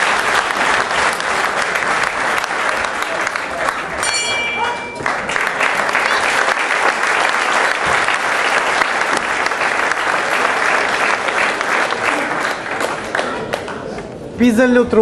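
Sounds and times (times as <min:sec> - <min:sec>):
crowd applauding: 0:00.0 - 0:14.2.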